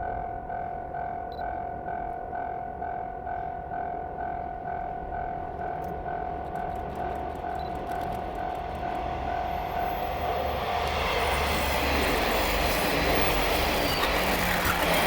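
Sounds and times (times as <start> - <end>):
train engine and wheels rumble: 0.0 - 15.0.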